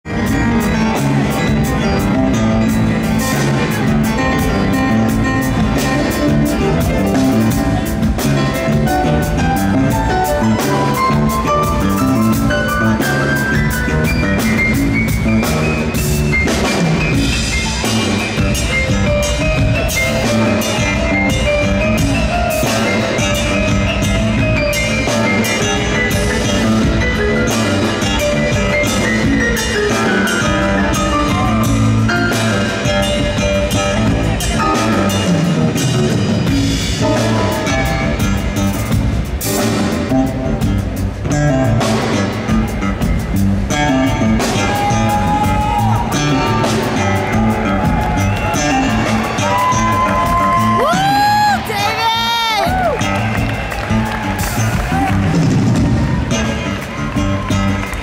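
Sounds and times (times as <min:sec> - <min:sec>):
live rock band playing: 0:00.0 - 0:58.0
keyboard solo: 0:00.1 - 0:58.0.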